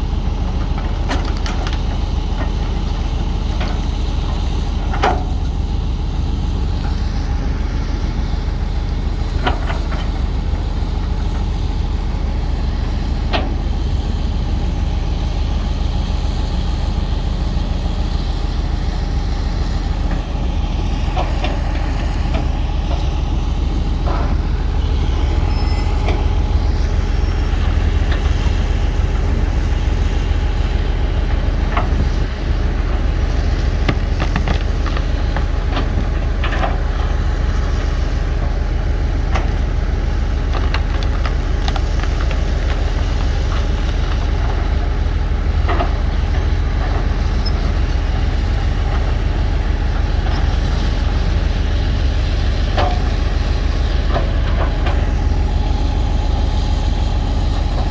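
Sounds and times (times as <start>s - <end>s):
heavy diesel machinery droning: 0.0s - 57.9s.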